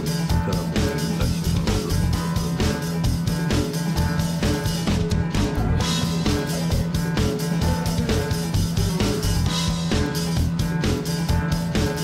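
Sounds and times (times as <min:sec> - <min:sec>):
rock music with guitar and drums: 0:00.0 - 0:12.0.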